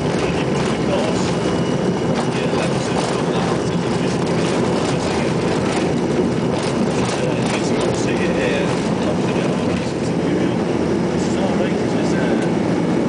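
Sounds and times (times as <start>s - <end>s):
jet cabin rumble and rush: 0.0s - 13.0s.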